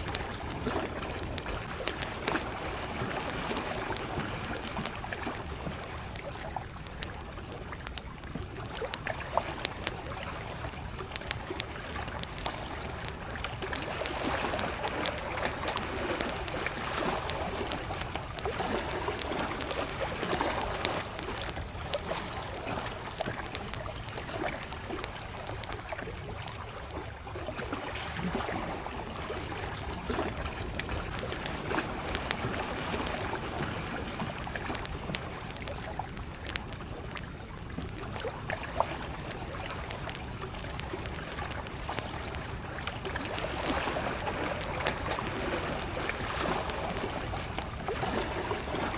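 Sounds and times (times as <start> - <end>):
campfire crackling and popping: 0.0 - 48.9
waves lapping at shore: 0.0 - 48.9.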